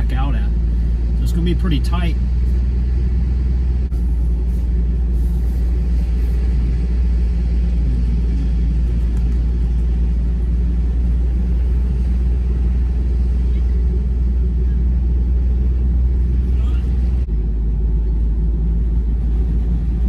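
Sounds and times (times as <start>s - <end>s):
vehicle driving through sand: 0.0s - 20.0s.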